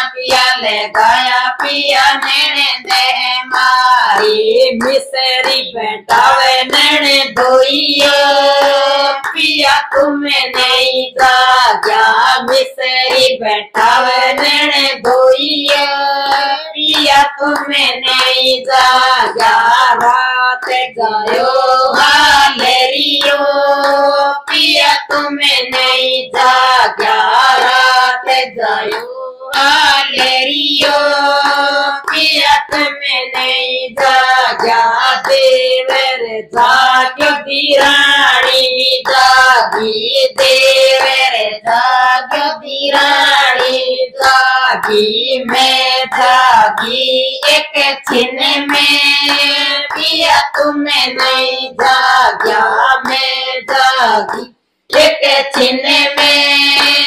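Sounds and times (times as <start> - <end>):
hand claps: 0.0 - 57.0
women singing folk song in unison: 0.0 - 57.0.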